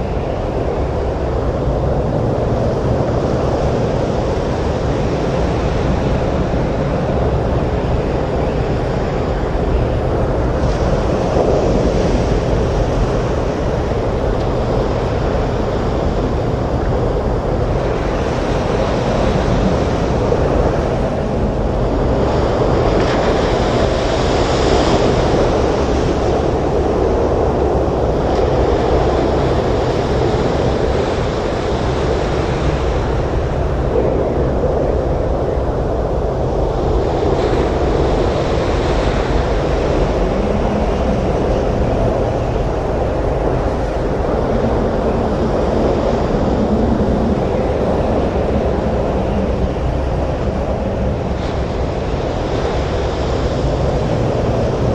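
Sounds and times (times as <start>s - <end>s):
stormy sea surf: 0.0s - 54.9s
wind: 0.0s - 54.9s.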